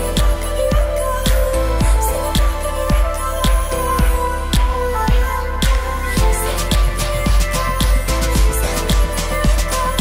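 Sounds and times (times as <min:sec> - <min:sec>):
electronic music with kick drum: 0:00.0 - 0:10.0.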